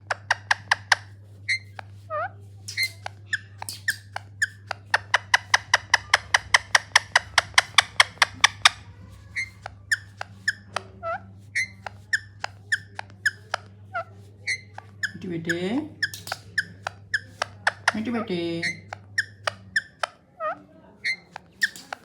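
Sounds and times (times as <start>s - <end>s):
parrot squeaky calls: 0.1s - 22.0s.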